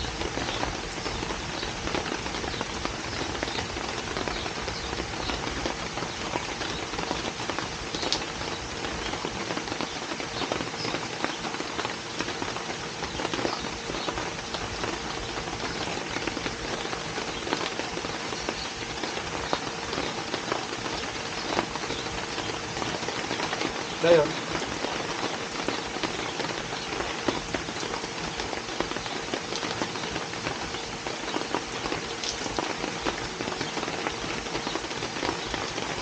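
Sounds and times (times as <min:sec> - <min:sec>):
raindrops ticking on a surface: 0:00.0 - 0:36.0
steady rain hiss: 0:00.0 - 0:36.0.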